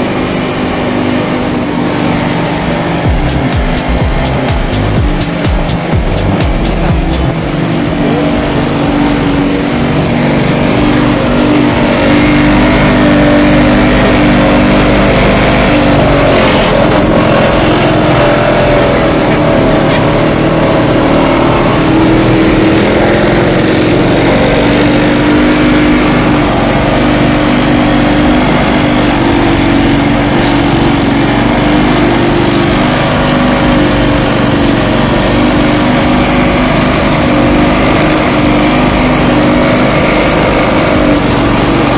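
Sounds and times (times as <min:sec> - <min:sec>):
small engine running under load: 0:00.0 - 0:41.9.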